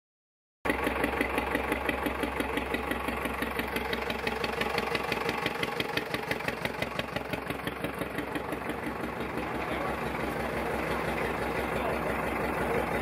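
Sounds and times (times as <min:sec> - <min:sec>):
tractor engine idling: 0:00.7 - 0:13.0.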